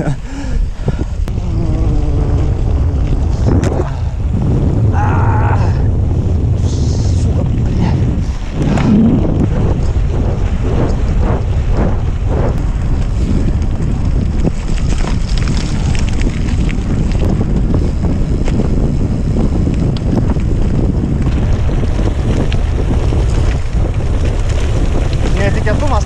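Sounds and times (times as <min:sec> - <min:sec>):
tyres rolling on gravel: 0:00.0 - 0:26.0
wind on microphone: 0:00.0 - 0:26.0.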